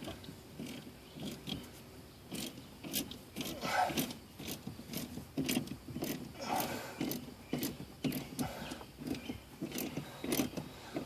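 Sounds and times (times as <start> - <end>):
wrench clicking and scraping metal: 0.0 - 1.7, 2.3 - 11.0.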